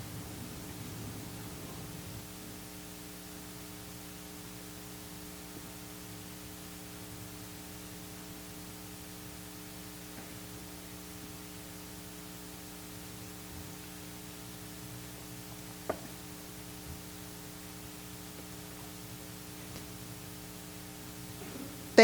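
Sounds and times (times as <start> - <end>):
electrical hum with hiss: 0.0 - 22.0.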